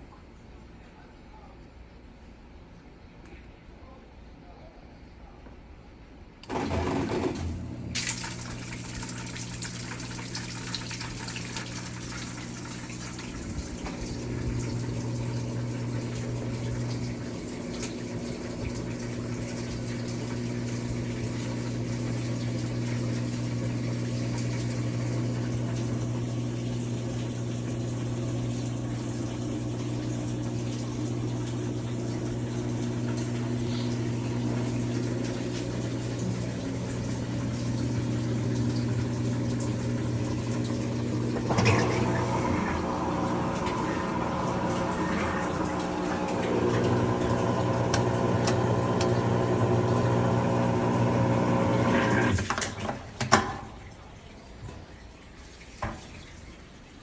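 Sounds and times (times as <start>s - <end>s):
washing machine water rushing: 6.4s - 57.0s.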